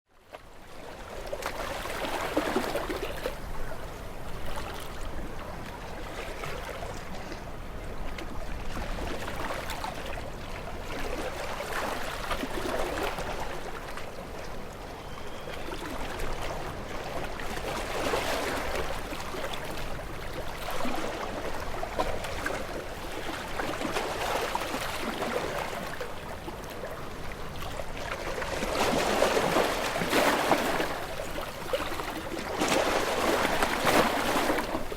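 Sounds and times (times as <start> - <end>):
water waves lapping: 0.5 - 34.9.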